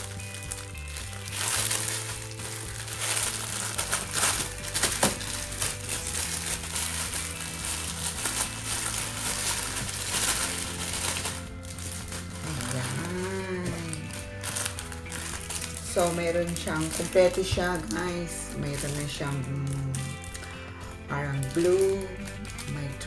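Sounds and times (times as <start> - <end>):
background music with held tones: 0.0 - 23.0
plastic packaging crinkling: 0.0 - 23.0.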